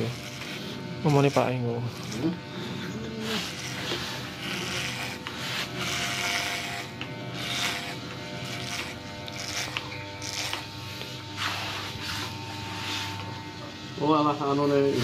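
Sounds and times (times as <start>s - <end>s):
clipper rasping through hair: 0.0s - 13.6s
electric hair clipper humming: 0.0s - 15.0s.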